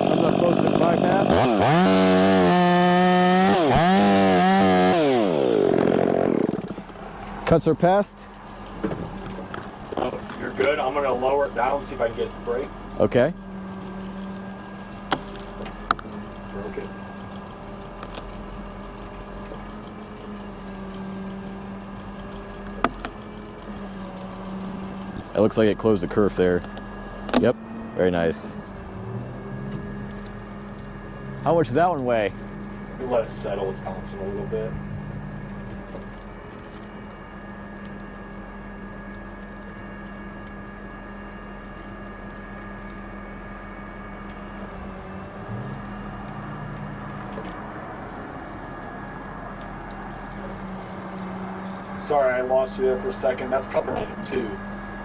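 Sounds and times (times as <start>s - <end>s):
crane engine humming: 0.0s - 55.0s.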